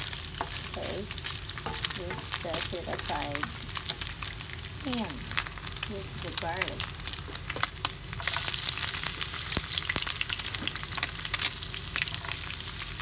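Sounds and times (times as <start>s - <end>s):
food sizzling in hot oil: 0.0s - 13.0s
oil crackles and pops: 0.0s - 13.0s.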